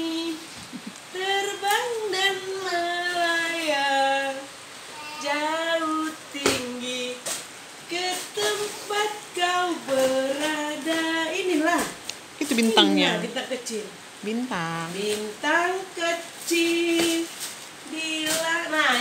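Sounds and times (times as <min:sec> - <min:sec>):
woman singing slow tune: 0:00.0 - 0:19.0.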